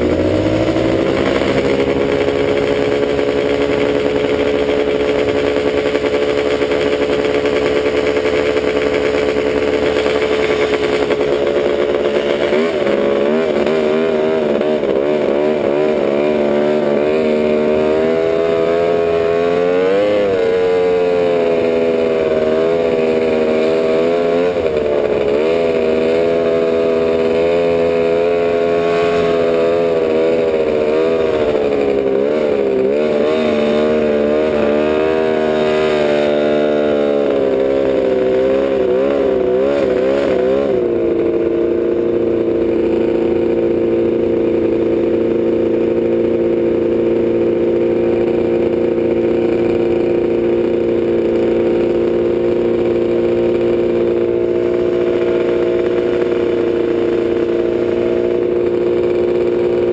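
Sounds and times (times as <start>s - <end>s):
two-stroke engine revving and idling: 0.0s - 59.9s.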